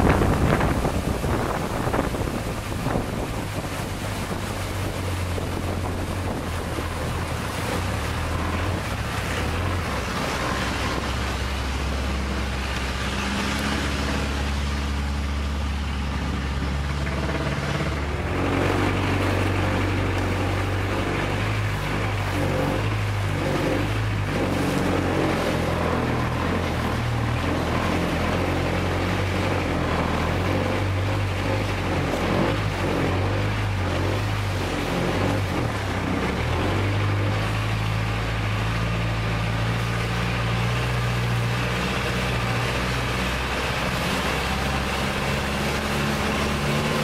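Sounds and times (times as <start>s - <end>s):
boat engine running: 0.0s - 47.0s
water splashing along hull: 0.0s - 47.0s.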